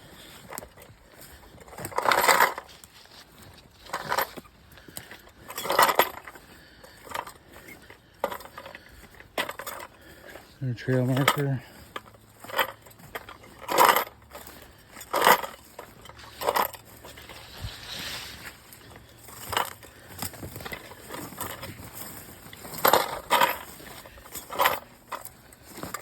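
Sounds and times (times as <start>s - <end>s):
footsteps crunching on forest floor: 0.0s - 26.0s.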